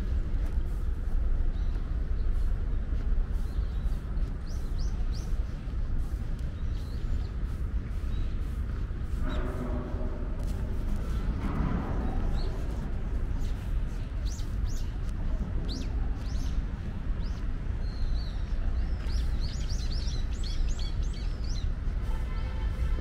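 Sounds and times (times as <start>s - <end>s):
small birds chirping: 0.0s - 22.0s
low background rumble: 0.0s - 22.4s.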